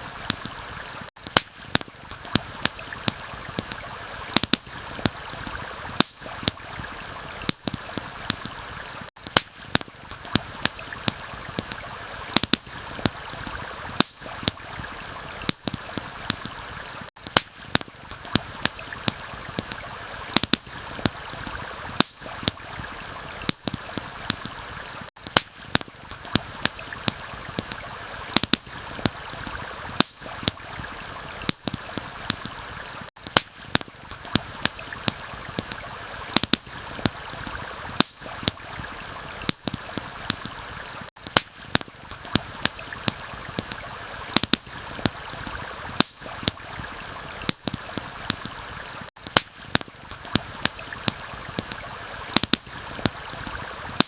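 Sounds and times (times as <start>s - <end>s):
stream water rushing: 0.0s - 1.1s, 1.7s - 9.1s, 9.9s - 17.1s, 17.9s - 25.1s, 25.7s - 33.1s, 34.0s - 41.1s, 41.7s - 49.1s, 49.7s - 54.0s
campfire crackling: 0.0s - 54.0s.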